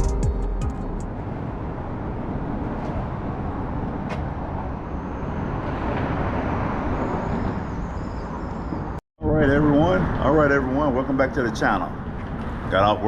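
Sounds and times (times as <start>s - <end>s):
road traffic passing: 0.5s - 13.0s.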